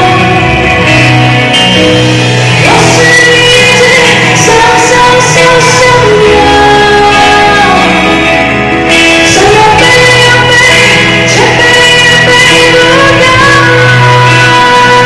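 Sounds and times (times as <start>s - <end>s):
woman singing: 0.0s - 1.5s, 2.3s - 15.0s
live pop band: 0.0s - 15.0s.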